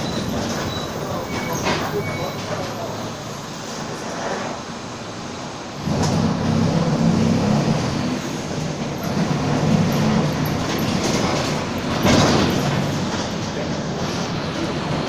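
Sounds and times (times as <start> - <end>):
bus diesel engine under way: 0.0 - 15.0.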